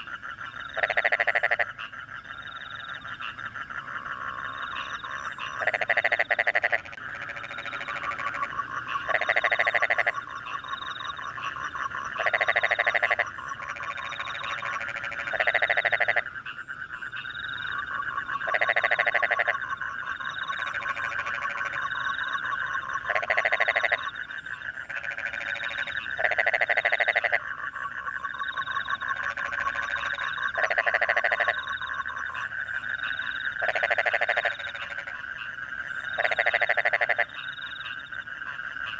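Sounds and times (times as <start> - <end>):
crickets chirping faintly: 0.0 - 38.9
frog chorus: 0.0 - 38.9
frog rapid croaking call: 0.0 - 38.9.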